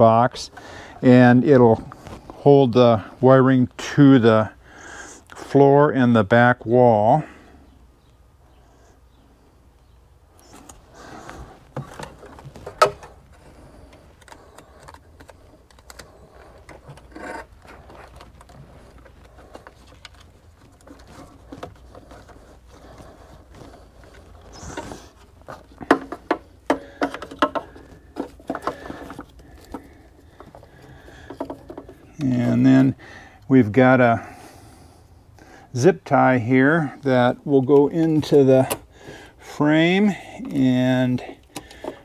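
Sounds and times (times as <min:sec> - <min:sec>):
rustling and scraping wires: 0:00.0 - 0:04.6, 0:10.3 - 0:42.0.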